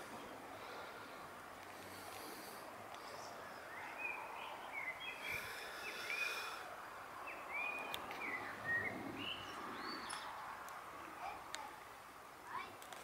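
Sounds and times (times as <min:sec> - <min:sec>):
songbirds singing and chirping: 0:00.0 - 0:11.8
faint outdoor hiss: 0:00.0 - 0:13.0.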